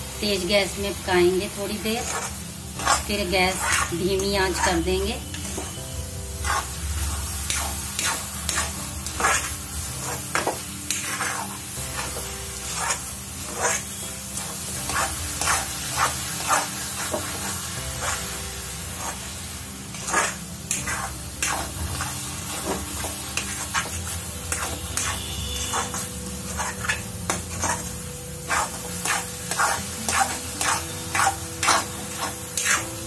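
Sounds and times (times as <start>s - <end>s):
hiss of cooking mixture: 0.0s - 33.0s
spatula scraping a metal pan: 1.8s - 33.0s.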